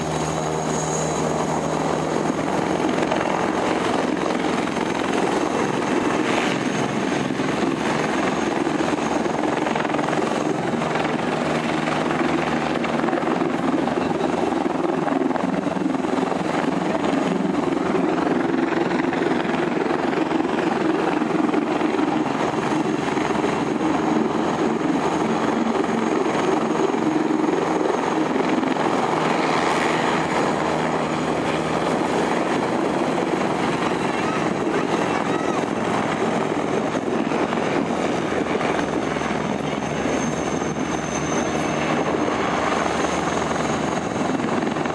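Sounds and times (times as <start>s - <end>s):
helicopter rotor chopping: 0.0s - 44.9s.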